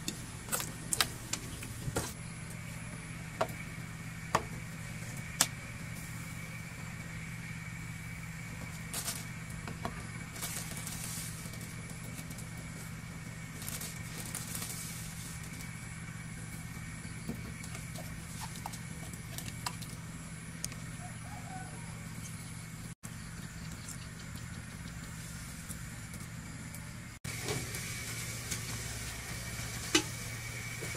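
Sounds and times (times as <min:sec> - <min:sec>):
low hum with high whine: 0:00.0 - 0:30.9.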